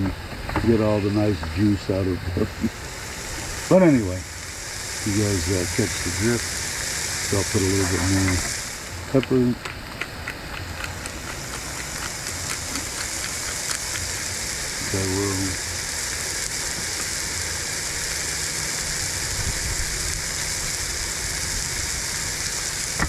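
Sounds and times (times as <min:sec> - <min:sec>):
patties sizzling: 0:00.0 - 0:23.0.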